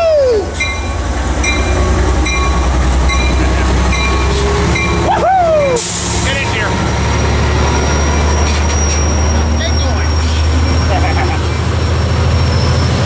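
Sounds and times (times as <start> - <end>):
diesel locomotive engine throbbing: 0.0 - 13.0
locomotive bell ringing: 0.5 - 11.6.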